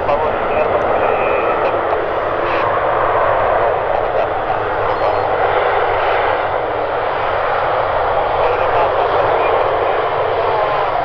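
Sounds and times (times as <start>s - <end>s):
turboprop engines and propellers: 0.0s - 11.0s.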